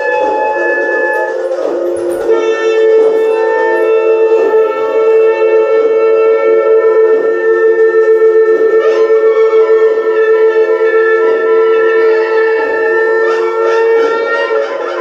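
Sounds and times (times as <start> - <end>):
wind instruments droning: 0.0 - 15.0.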